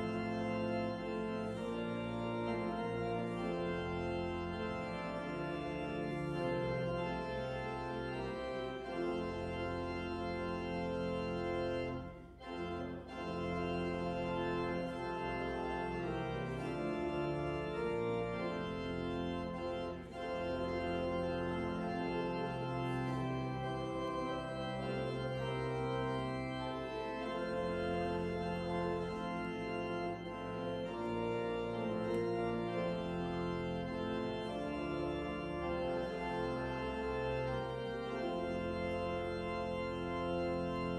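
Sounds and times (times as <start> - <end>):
church organ chords: 0.0 - 40.9.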